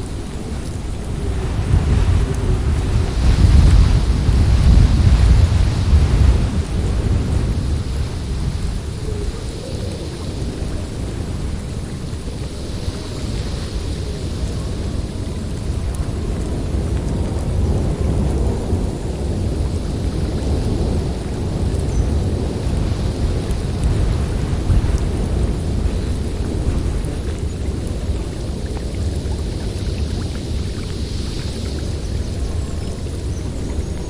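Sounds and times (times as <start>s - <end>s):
gusting blizzard wind: 0.0s - 34.0s.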